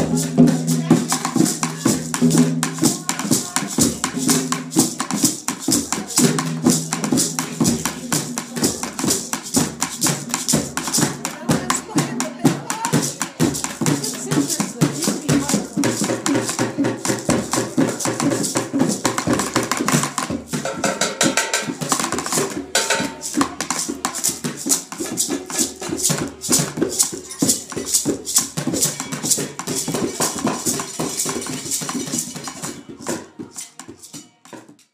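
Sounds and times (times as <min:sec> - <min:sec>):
hand drums playing: 0:00.0 - 0:34.8
shakers: 0:00.0 - 0:34.9.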